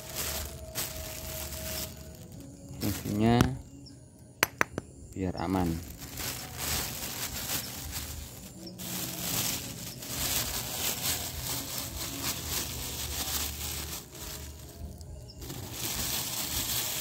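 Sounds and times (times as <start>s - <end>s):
plastic bags rustling: 0.0s - 3.6s, 5.4s - 17.0s.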